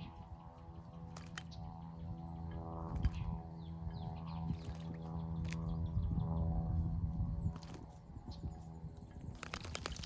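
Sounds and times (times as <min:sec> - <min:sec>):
low drone of held tones: 0:00.0 - 0:09.4
small birds chirping: 0:00.0 - 0:10.0.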